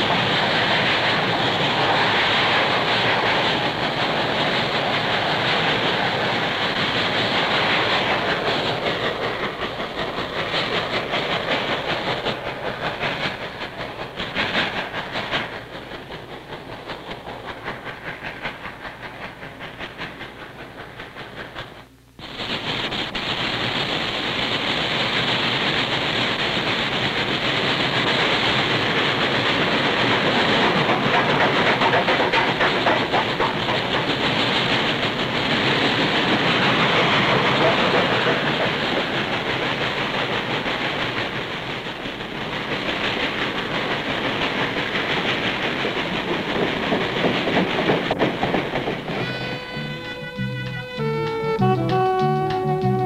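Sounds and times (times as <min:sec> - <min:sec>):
wheels clattering on rails: 0:00.0 - 0:21.9, 0:22.9 - 0:53.0
steam locomotive exhaust: 0:00.0 - 0:53.0.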